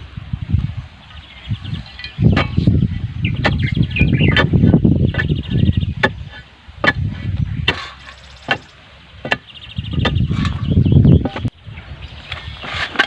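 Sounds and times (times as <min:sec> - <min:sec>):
birds chirping: 0:00.8 - 0:13.0
metal bar tamping stony soil: 0:01.7 - 0:11.6, 0:12.2 - 0:13.0.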